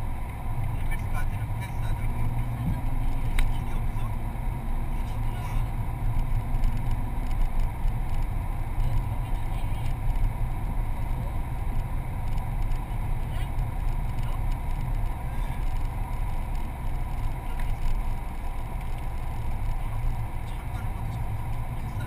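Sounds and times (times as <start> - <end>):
car engine rumble: 0.0 - 22.0
tyre noise on road: 0.0 - 22.0.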